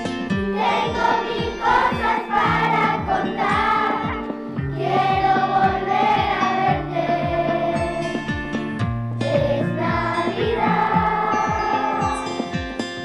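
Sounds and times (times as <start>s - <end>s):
backing track with steady beat: 0.0s - 13.0s
children's choir singing a carol: 0.4s - 8.5s, 9.2s - 12.6s.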